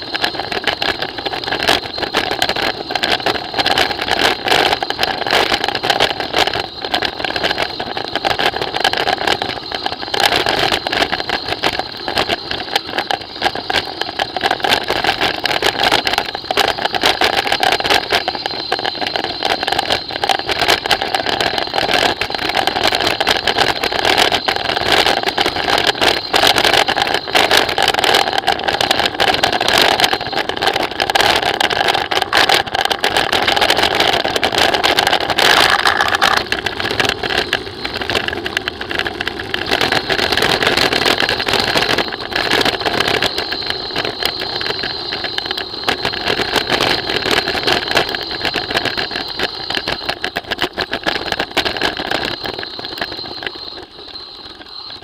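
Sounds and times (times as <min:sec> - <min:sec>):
bike frame buzzing rattle: 0:00.0 - 0:55.0
clatter of small knocks: 0:00.0 - 0:55.0.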